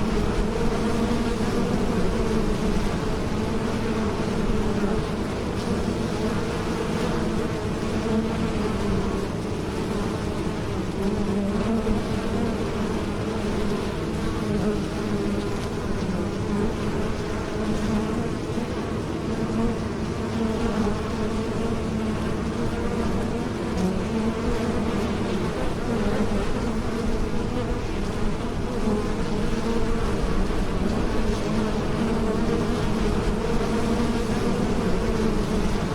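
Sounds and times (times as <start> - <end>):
bees buzzing: 0.0 - 35.9.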